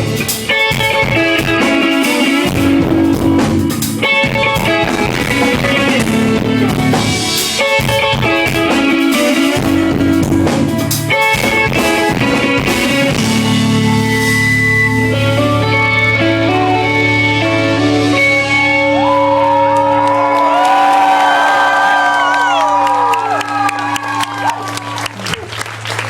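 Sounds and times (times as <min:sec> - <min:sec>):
drum kit: 0:00.0 - 0:21.9
picked electric guitar: 0:00.0 - 0:25.9.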